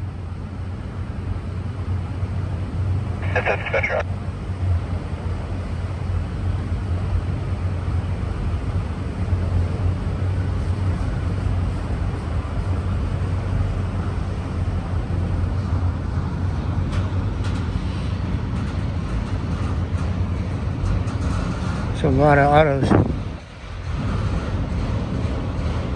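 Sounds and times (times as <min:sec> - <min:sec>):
freight train rumbling past: 0:00.0 - 0:25.9.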